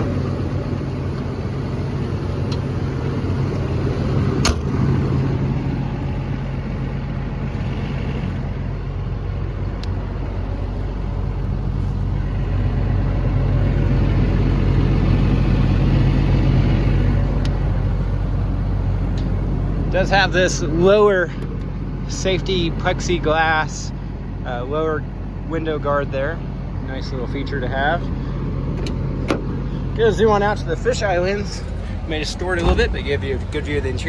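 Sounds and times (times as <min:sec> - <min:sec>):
diesel excavator idling: 0:00.0 - 0:34.0.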